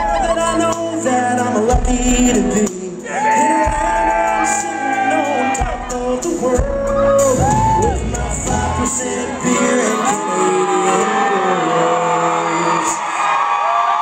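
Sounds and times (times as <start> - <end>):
live country band playing: 0.0 - 13.0
person singing long notes: 0.0 - 13.2.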